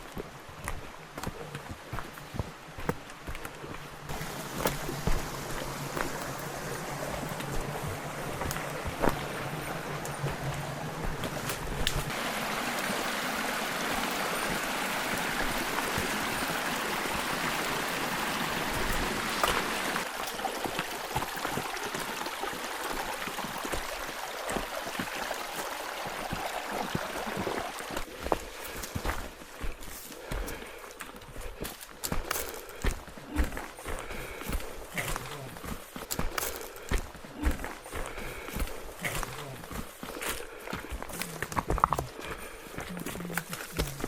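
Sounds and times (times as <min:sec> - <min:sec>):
stream babbling: 0:00.0 - 0:44.0.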